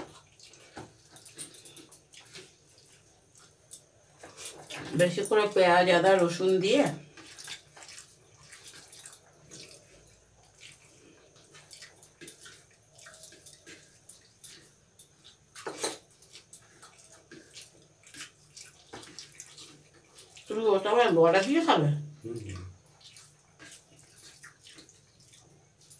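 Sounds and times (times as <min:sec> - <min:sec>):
wet chewing and smacking: 0:00.0 - 0:05.5, 0:06.1 - 0:20.7, 0:21.4 - 0:25.9
fingers mixing rice on plates: 0:00.0 - 0:21.6, 0:22.2 - 0:25.9.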